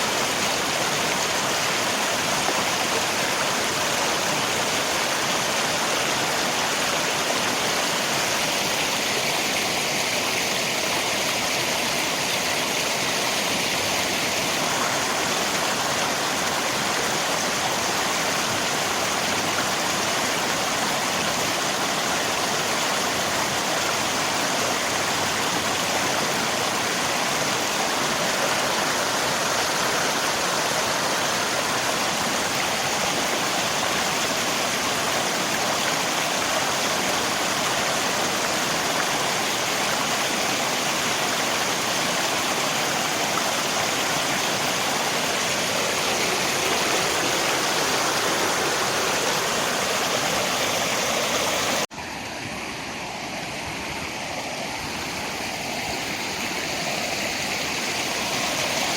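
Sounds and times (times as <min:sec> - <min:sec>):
rain: 0:00.0 - 0:58.9
river water rushing: 0:00.0 - 0:58.9.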